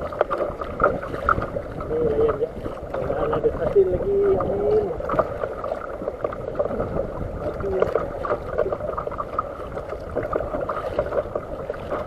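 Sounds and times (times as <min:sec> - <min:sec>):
water splashing against kayak: 0:00.0 - 0:12.0.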